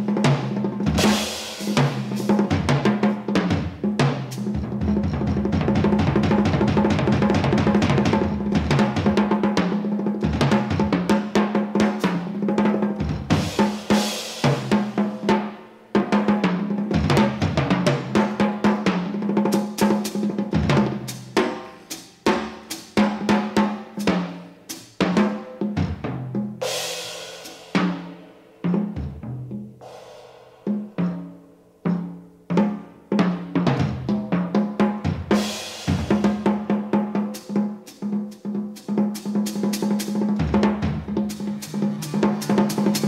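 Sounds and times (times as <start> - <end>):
jazz drum kit solo: 0.0 - 43.0.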